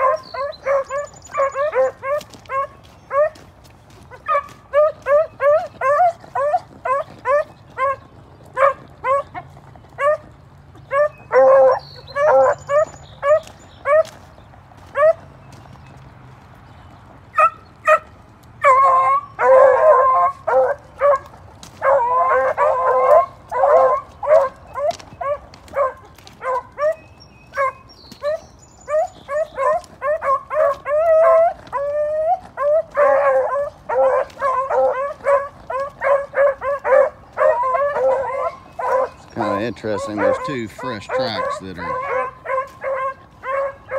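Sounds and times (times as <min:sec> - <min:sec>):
dogs baying and yipping: 0:00.0 - 0:43.9.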